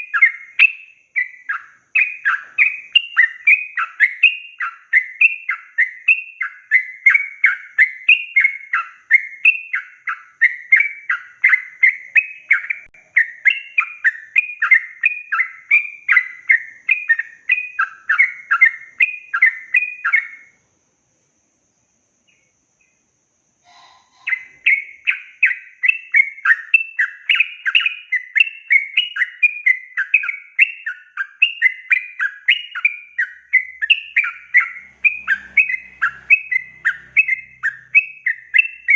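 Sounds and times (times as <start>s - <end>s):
bird singing chattering notes: 0.0s - 20.4s, 23.6s - 38.9s.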